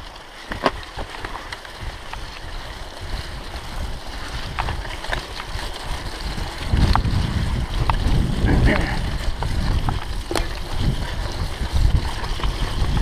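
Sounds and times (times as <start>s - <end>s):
bike clicking and rattling: 0.0s - 13.0s
bike tyres rumbling on gravel: 0.0s - 13.0s
wind buffeting microphone: 1.8s - 13.0s.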